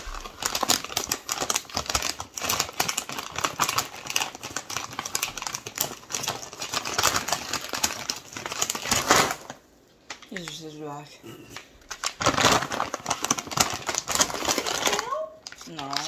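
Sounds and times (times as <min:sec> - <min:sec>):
plastic bag crinkling: 0:00.0 - 0:10.8, 0:11.5 - 0:16.0.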